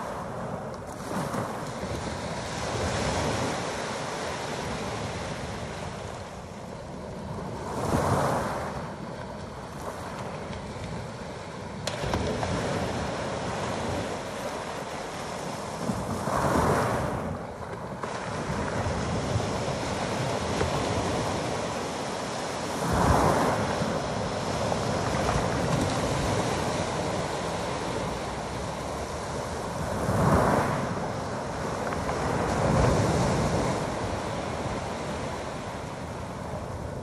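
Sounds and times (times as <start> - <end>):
waves breaking on pebble beach: 0.0 - 37.0.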